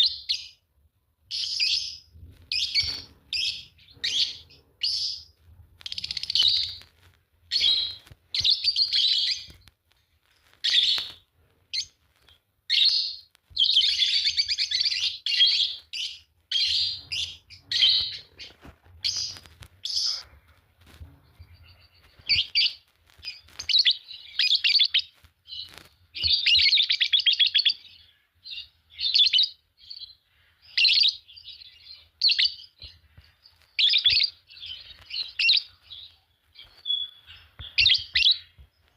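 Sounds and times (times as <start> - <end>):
lovebirds chirping and chattering: 0.0 - 38.9.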